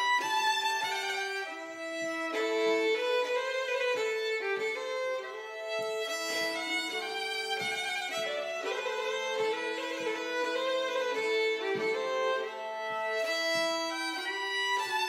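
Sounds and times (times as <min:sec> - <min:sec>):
two fiddles playing folk tune: 0:00.0 - 0:15.0.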